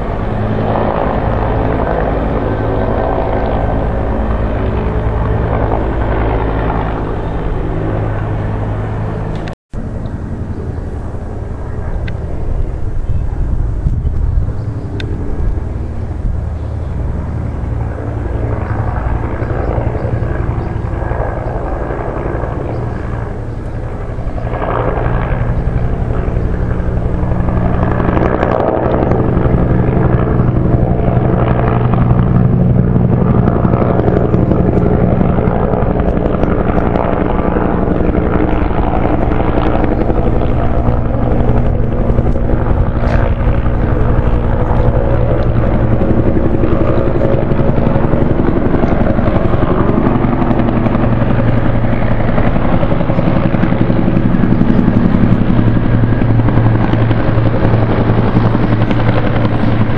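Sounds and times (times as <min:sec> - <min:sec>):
helicopter rotor beating: 0:00.0 - 0:59.9.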